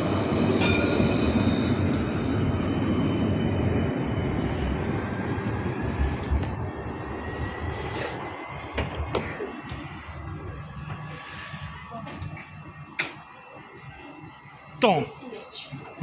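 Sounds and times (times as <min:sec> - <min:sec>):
thin motor whine: 0:00.0 - 0:16.0
tram rolling rumble: 0:00.0 - 0:16.0.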